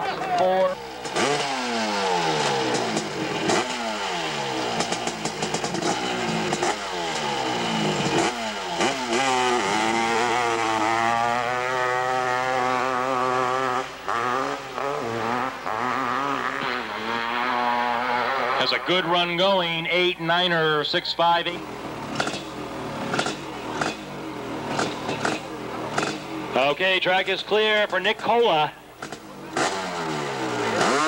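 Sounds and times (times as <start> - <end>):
dirt bike engine revving: 0.0 - 20.6, 21.4 - 31.0.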